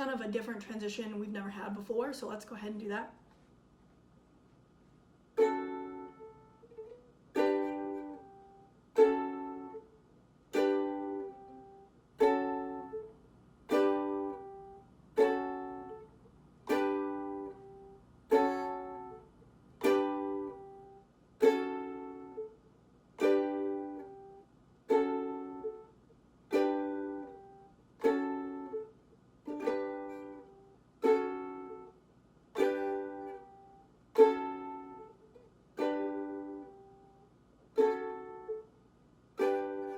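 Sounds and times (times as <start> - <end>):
ukulele strumming chords: 5.4 - 38.7, 39.4 - 39.9.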